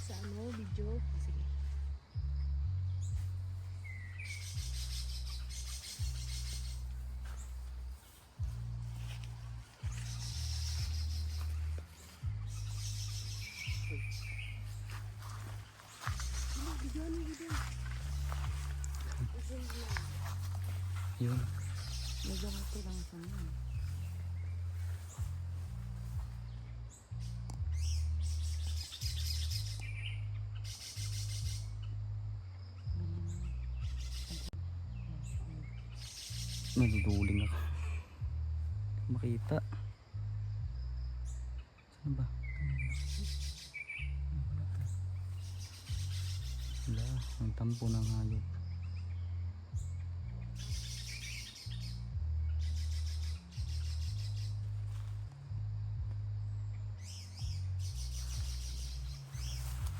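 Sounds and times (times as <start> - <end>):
background music low held notes: 0.0 - 59.9
steady low rumble: 0.0 - 59.9
wild birds chirping: 0.0 - 59.9.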